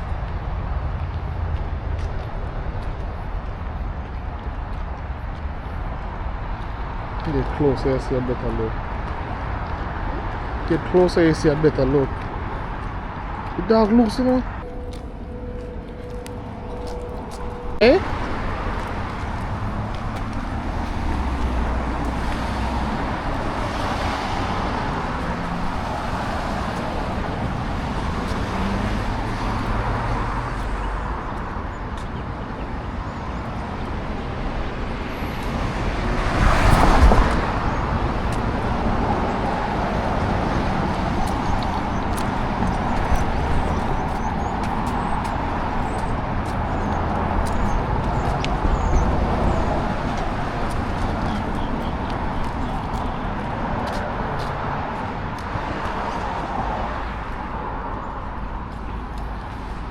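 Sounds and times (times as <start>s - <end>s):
road traffic rush: 0.0s - 59.9s.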